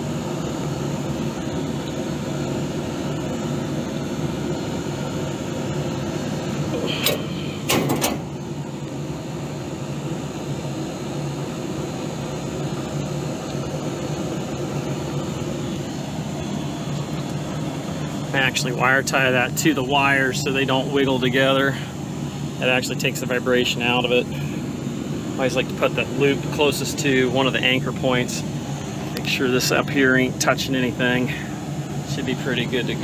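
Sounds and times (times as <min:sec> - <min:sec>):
refrigeration equipment humming: 0:00.0 - 0:33.0.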